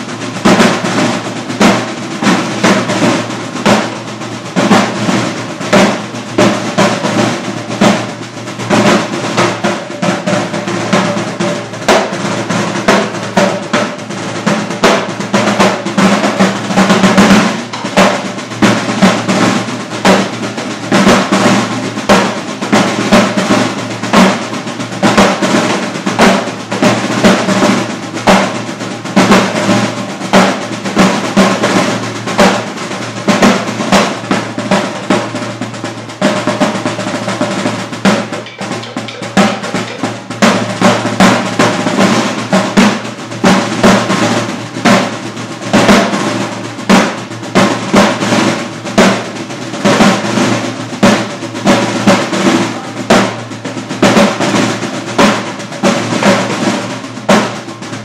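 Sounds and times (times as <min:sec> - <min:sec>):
bucket drums played with sticks: 0:00.0 - 0:58.0.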